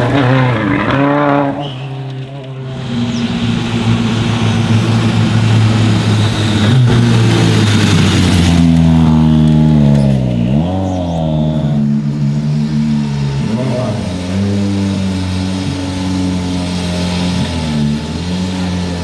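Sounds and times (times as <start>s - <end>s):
gravel and tyre hiss: 0.0s - 19.0s
rally car engine running hard: 0.0s - 19.0s.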